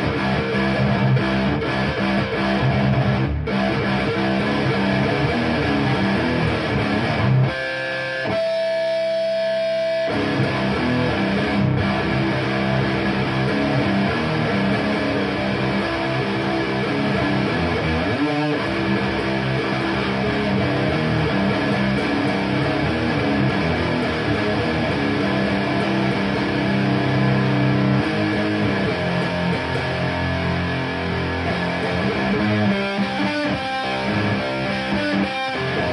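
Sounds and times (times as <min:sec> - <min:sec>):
distorted electric guitar riffing: 0:00.0 - 0:35.9.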